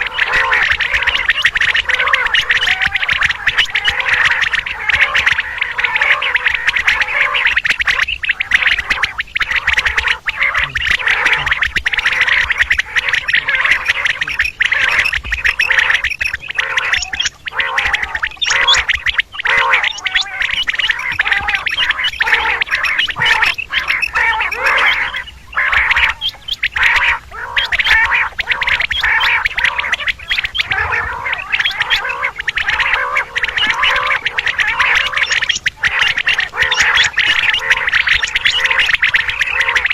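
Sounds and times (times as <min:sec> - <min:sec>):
quails chattering: 0:00.0 - 0:39.9.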